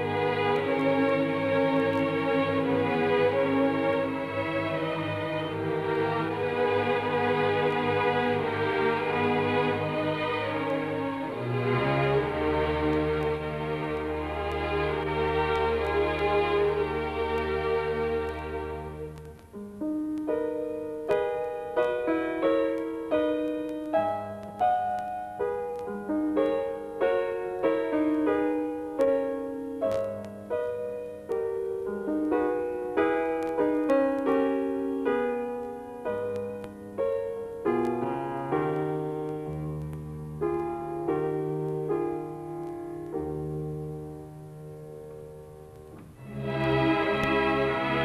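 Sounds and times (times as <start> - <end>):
slow piano melody: 0.0 - 48.0.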